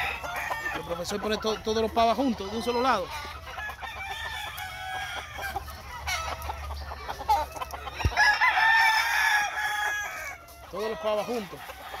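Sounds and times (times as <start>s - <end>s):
rooster crowing: 0.0s - 1.2s, 2.4s - 6.4s, 7.3s - 12.0s
fowl clucking and calling: 0.0s - 12.0s.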